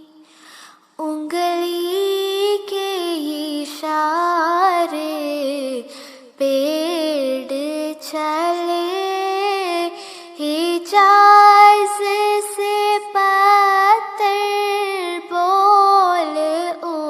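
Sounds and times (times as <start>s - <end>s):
person singing devotional song: 0.0s - 17.0s.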